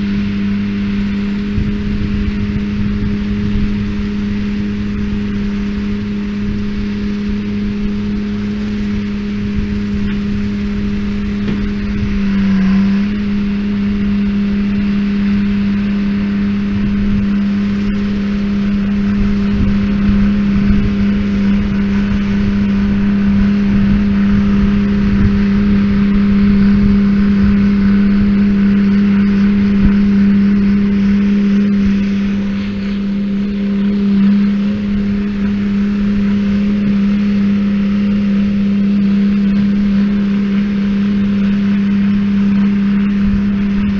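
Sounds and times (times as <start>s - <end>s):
tractor engine droning: 0.0s - 43.9s.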